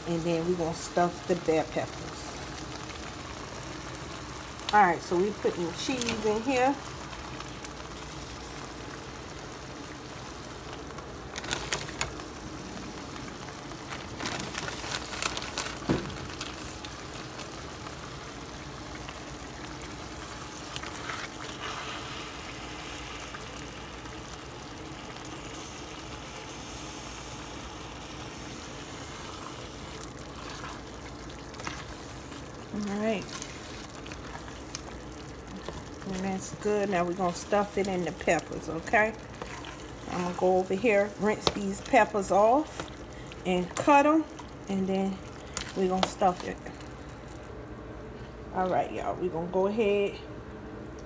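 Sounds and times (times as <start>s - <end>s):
food simmering in a pan: 0.0s - 48.6s.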